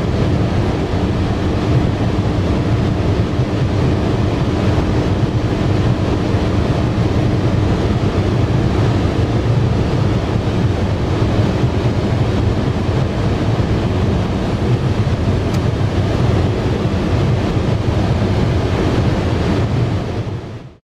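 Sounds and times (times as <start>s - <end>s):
car engine drone: 0.0s - 20.8s
wind noise: 0.0s - 20.8s.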